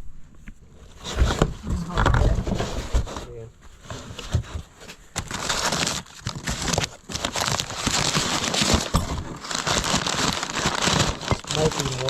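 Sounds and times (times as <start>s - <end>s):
packing material crinkling: 0.8s - 12.0s.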